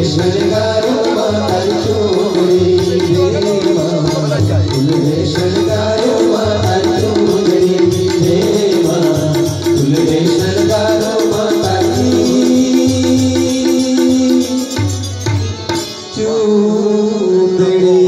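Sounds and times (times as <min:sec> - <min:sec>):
man singing: 0:00.0 - 0:15.1, 0:16.0 - 0:18.0
harmonium chords: 0:00.0 - 0:18.0
tabla rhythm: 0:00.0 - 0:18.0.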